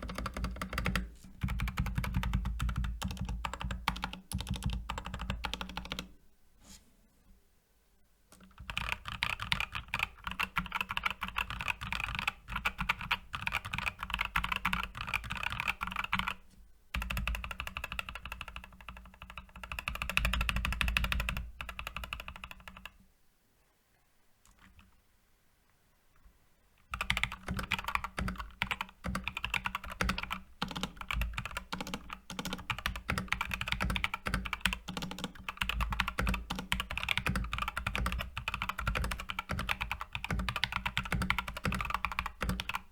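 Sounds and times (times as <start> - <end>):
mechanical keyboard typing: 0.0 - 6.1, 8.4 - 16.4, 17.0 - 23.0, 26.9 - 42.9.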